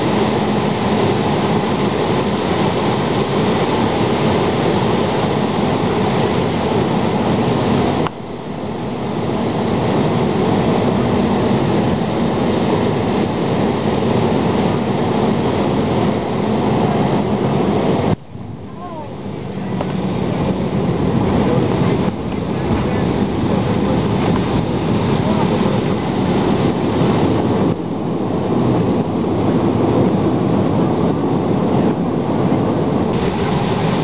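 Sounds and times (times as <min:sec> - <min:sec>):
airflow rushing: 0:00.0 - 0:34.0
jet engines: 0:00.0 - 0:34.0.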